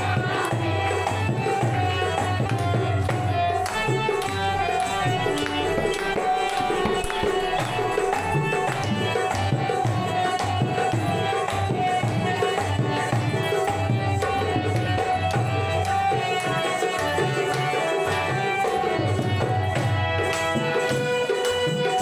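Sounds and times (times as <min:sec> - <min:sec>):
tabla playing a steady rhythm: 0:00.0 - 0:22.0
held melodic notes: 0:01.3 - 0:22.0.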